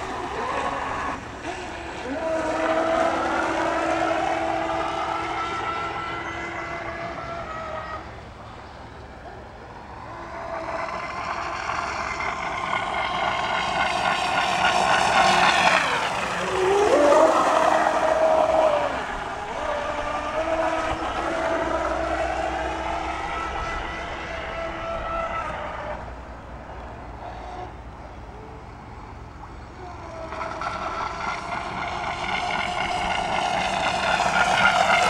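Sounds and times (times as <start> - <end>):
speedboat motor whining: 0.0 - 35.0.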